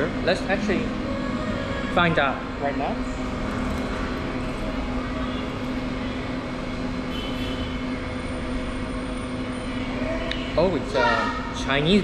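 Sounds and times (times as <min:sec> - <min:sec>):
pitched drone: 0:00.0 - 0:11.0
mechanical hum: 0:00.0 - 0:12.0.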